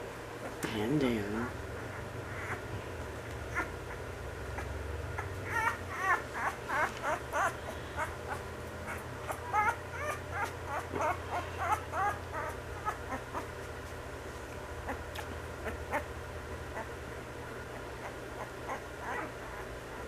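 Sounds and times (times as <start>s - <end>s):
puppy whimpering: 1.3s - 2.8s, 3.5s - 13.8s, 14.8s - 17.0s, 17.7s - 20.0s.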